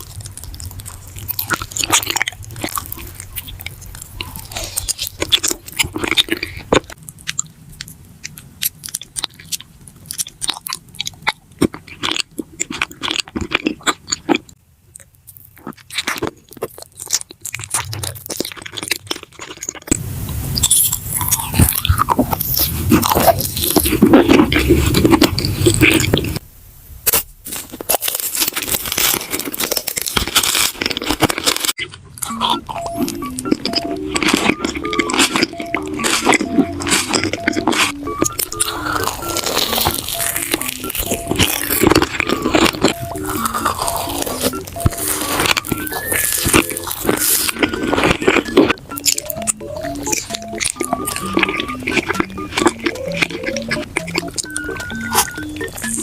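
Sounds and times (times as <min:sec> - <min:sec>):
crunchy chewing: 0:00.0 - 0:26.4, 0:27.1 - 0:56.0.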